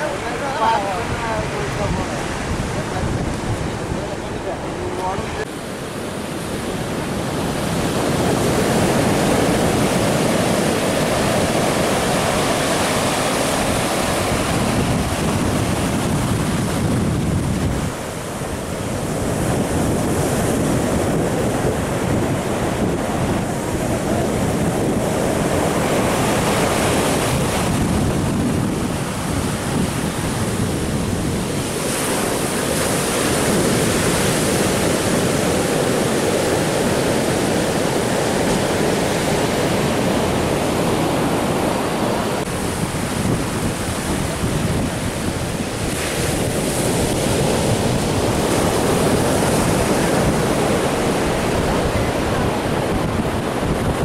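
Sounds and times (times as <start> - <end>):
ocean surf breaking on beach: 0.0 - 54.0
wind buffeting microphone: 0.0 - 54.0.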